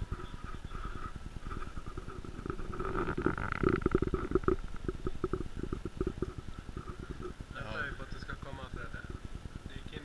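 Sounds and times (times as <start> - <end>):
microphone handling noise: 0.0 - 9.4.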